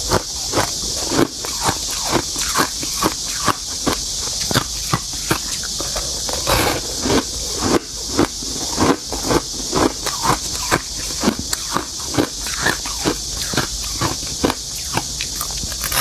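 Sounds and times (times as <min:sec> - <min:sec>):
frost being crunched and chewed: 0:00.6 - 0:16.0.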